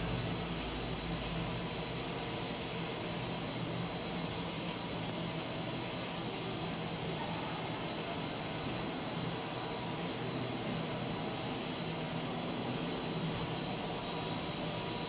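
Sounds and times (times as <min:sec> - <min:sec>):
faint high machine whine: 0:00.0 - 0:15.0
production line machine hum: 0:00.0 - 0:15.0.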